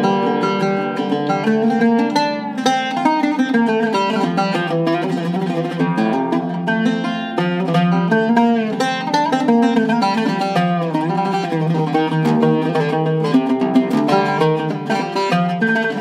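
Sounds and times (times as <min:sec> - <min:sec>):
oud played with a plectrum: 0:00.0 - 0:16.0.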